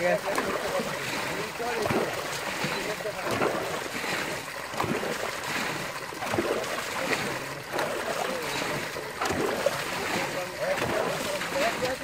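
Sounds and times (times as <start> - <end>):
water pouring through a net: 0.0 - 12.0
water splashing: 0.0 - 12.0.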